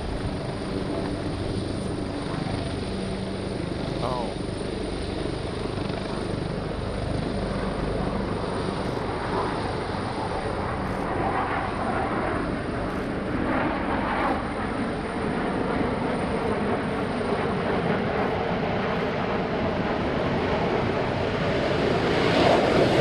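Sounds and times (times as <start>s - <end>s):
distant jet engine roar: 0.0s - 23.0s.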